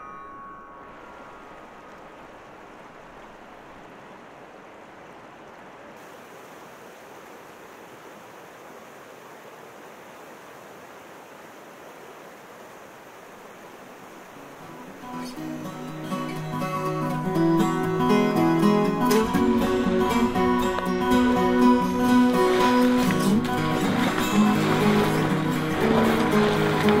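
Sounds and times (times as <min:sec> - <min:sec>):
water rushing over rocks: 0:00.2 - 0:27.0.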